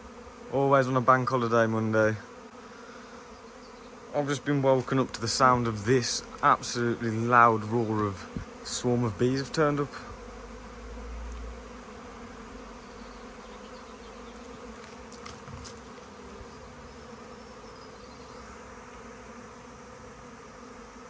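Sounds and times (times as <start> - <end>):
swarm of bees buzzing: 0.0 - 21.0.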